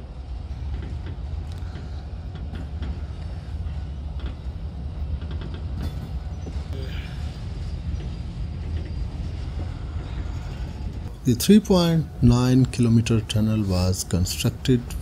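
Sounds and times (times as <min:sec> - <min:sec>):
train carriage low rumble: 0:00.0 - 0:15.0.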